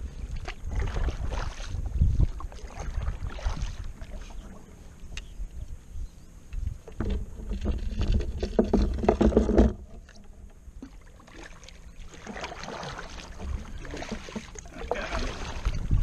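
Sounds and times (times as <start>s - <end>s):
low wind rumble: 0.0s - 11.2s, 13.3s - 16.0s
paddle strokes splashing: 0.1s - 5.4s, 6.8s - 16.0s.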